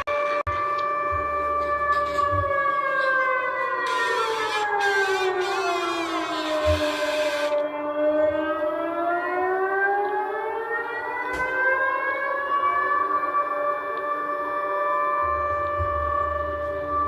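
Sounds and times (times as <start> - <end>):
rising siren tones: 0.0 - 17.0.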